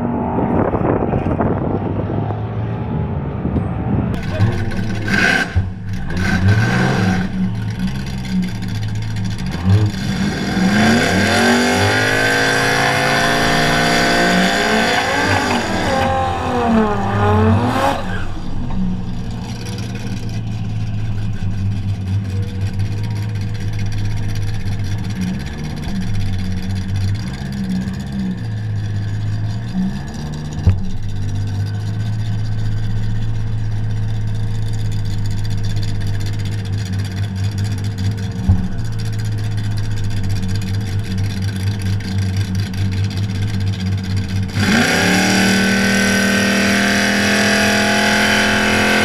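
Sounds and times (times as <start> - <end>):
drag car engine accelerating: 0.0 - 49.0
other engines running: 0.0 - 49.0.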